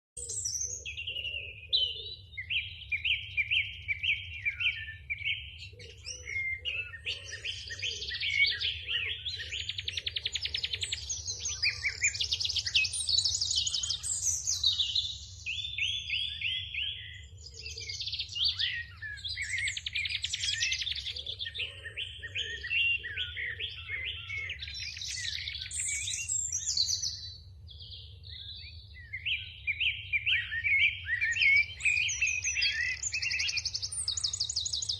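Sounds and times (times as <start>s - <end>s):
sparrows chirping: 0.2s - 34.9s.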